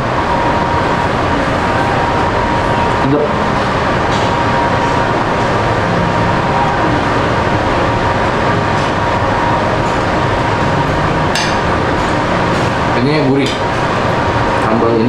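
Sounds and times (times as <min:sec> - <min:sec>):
restaurant background noise: 0:00.0 - 0:15.0.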